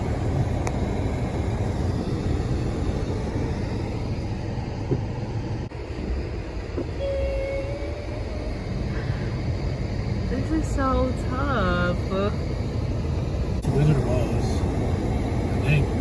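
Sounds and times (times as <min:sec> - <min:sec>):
car driving rumble from inside: 0:00.0 - 0:16.0.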